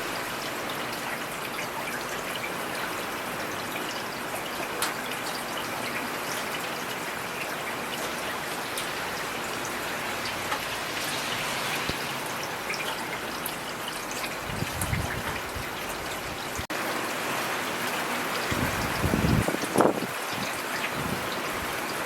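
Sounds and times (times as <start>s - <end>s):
steady rainfall hiss: 0.0s - 22.0s.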